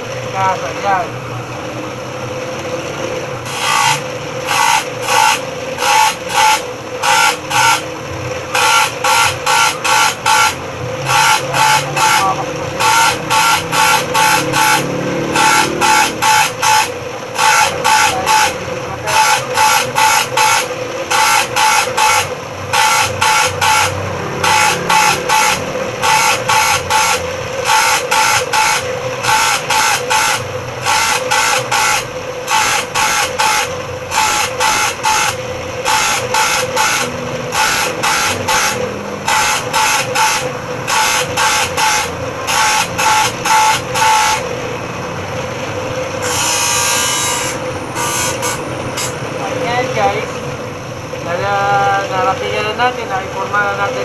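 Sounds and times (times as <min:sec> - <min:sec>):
bench grinder humming: 0:00.0 - 0:51.8
saw blade grinding on wheel: 0:03.4 - 0:44.9, 0:45.6 - 0:50.2.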